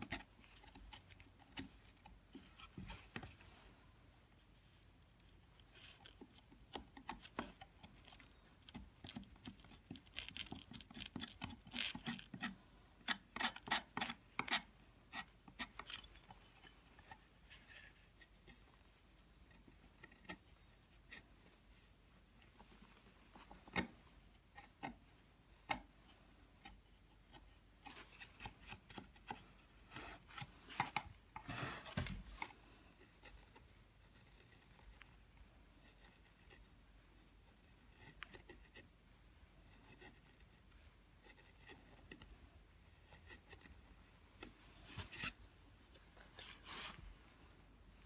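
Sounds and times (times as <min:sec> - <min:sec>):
carving gouge scraping: 0:00.0 - 0:03.7, 0:04.4 - 0:47.3.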